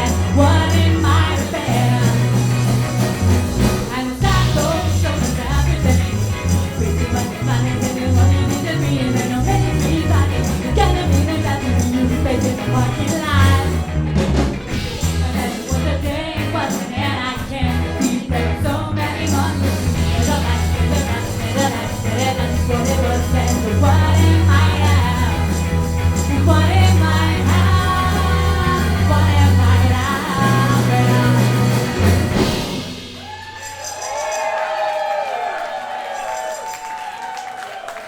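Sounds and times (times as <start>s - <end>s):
steady bass line: 0.0s - 33.4s
live ska band playing: 0.0s - 34.8s.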